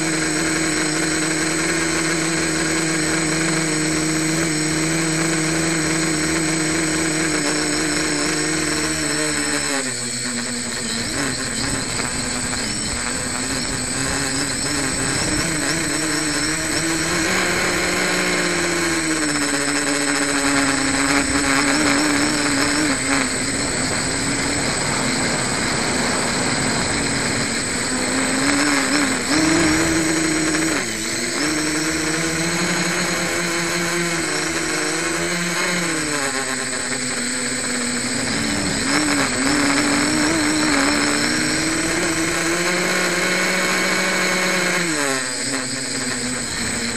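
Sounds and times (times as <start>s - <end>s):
quadcopter motors humming: 0.0s - 46.9s
wind hiss: 0.0s - 46.9s.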